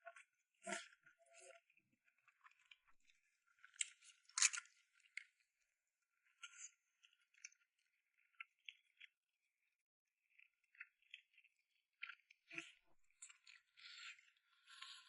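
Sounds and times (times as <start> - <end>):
chewing and crunching food: 0.1 - 15.0.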